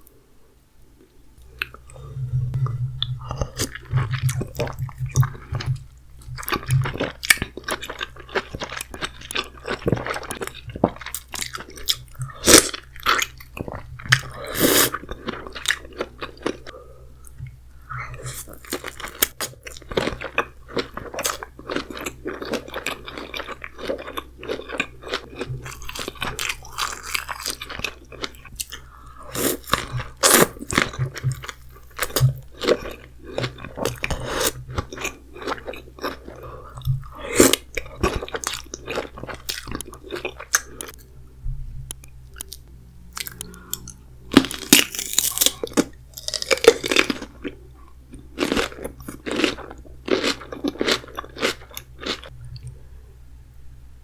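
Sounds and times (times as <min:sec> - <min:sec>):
close eating crunching and chewing: 0:01.4 - 0:52.8.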